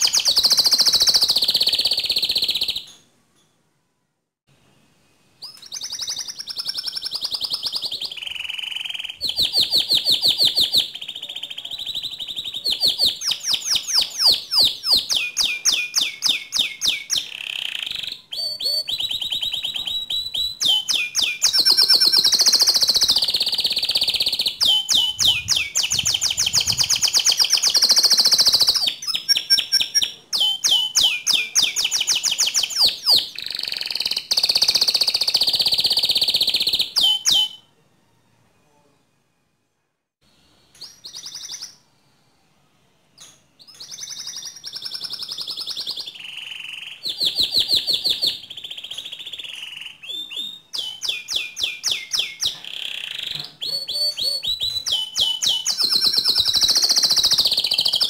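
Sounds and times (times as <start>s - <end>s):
canary singing trills: 0.0s - 3.1s, 5.4s - 37.7s, 40.7s - 41.9s, 43.2s - 58.0s.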